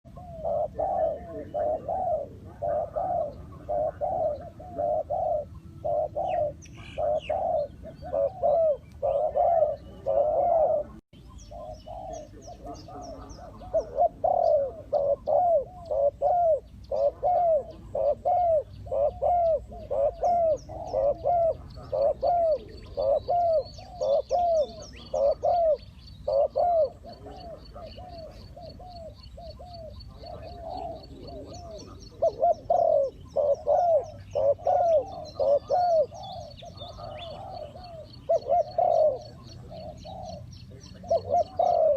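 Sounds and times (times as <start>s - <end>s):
doves cooing: 0.1s - 41.9s
small birds chirping faintly: 0.1s - 41.9s.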